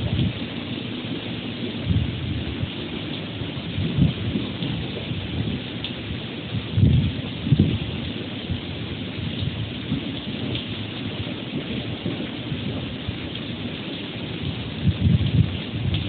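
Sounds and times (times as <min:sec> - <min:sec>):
gusting wind: 0:00.0 - 0:16.0
heavy rain hissing: 0:00.0 - 0:16.0.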